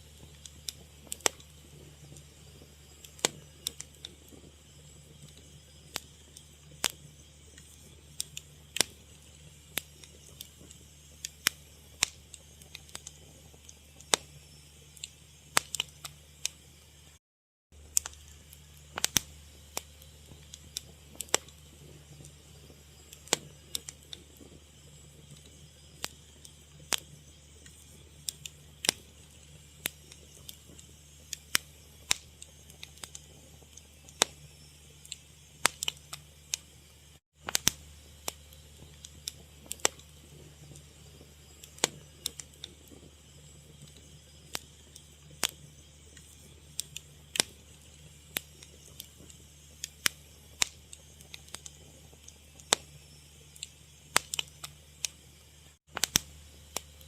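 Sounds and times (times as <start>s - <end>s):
fire crackling: 0.0s - 17.2s, 17.8s - 57.0s
low steady hum: 0.0s - 17.2s, 17.8s - 57.0s.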